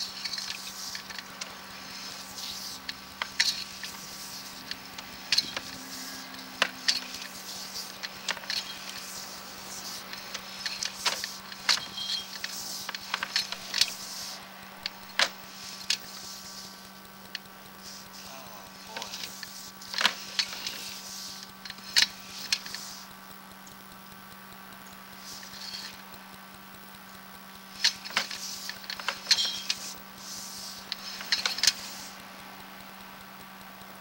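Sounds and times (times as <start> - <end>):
cable clicking and tapping: 0.0 - 26.9, 27.7 - 33.9
electrical hum: 0.0 - 34.0.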